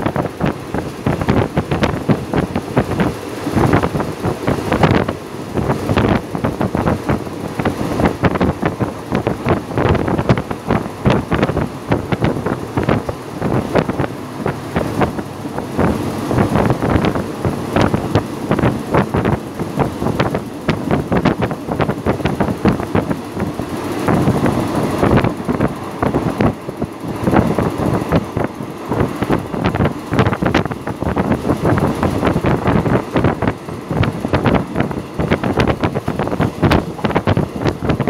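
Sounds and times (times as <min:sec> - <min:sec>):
train carriage rattling: 0:00.0 - 0:38.0
wind rushing past microphone: 0:00.0 - 0:38.0.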